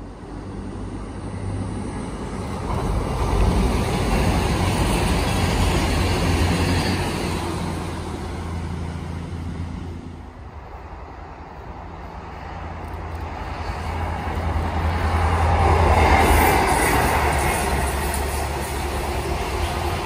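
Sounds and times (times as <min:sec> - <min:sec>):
train engines humming: 0:00.0 - 0:20.0
wheels rushing on rail: 0:00.0 - 0:20.0.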